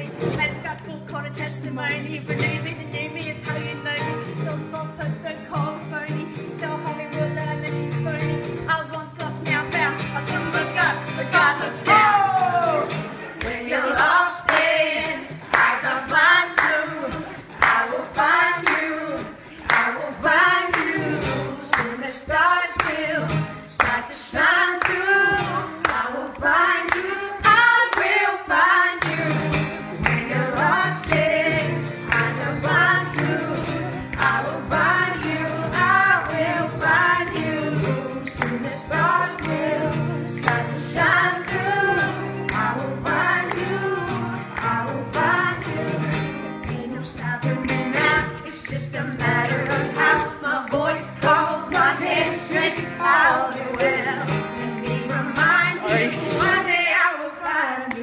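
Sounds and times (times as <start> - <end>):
person singing over music: 1.3 - 58.0.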